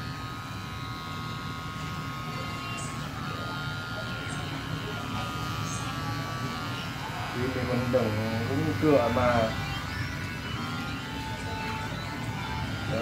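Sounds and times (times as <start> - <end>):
hair clipper buzzing: 0.0 - 13.0.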